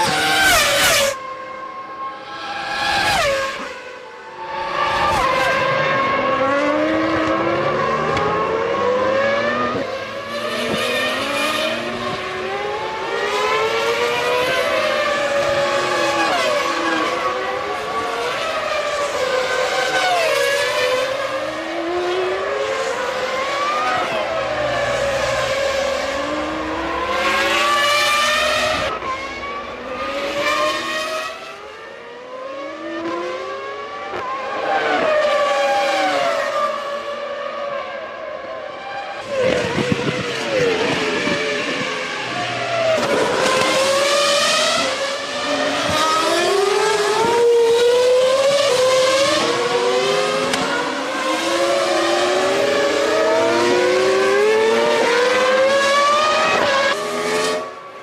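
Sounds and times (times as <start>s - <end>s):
racing car engines at high revs: 0.0s - 58.0s.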